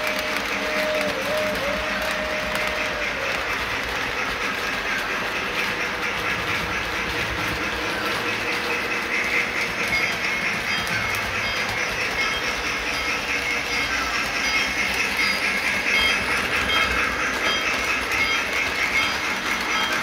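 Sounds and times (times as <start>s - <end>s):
model train whirring on rails: 0.0s - 20.0s.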